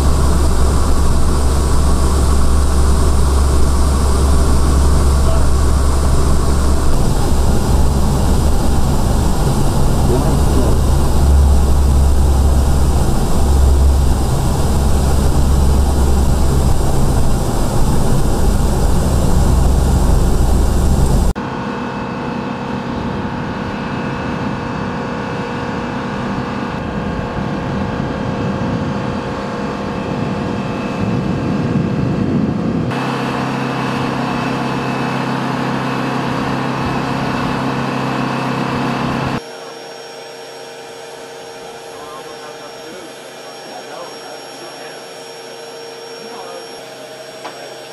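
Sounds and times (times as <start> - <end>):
turbine whine and hum: 0.0 - 47.9
turboprop engines droning: 0.0 - 47.9.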